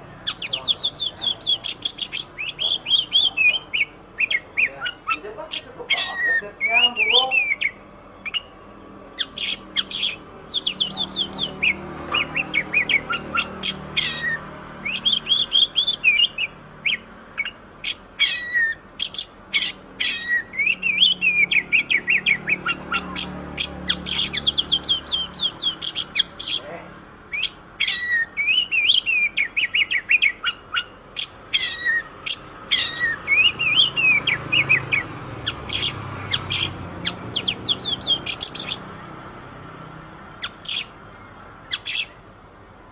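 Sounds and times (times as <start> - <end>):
bird singing whistles and trills: 0.2 - 8.6, 9.2 - 26.6, 27.3 - 38.9, 40.4 - 42.2.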